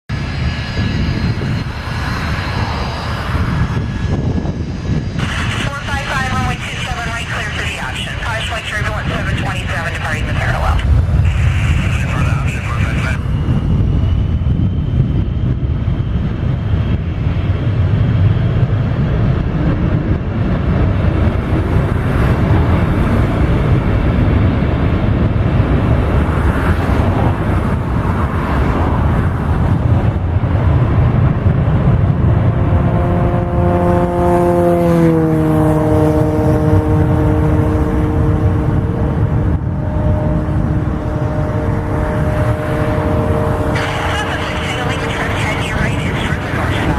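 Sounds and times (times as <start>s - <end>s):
jet engine rumble: 0.1s - 46.9s
whining jet engine tones: 0.1s - 46.9s.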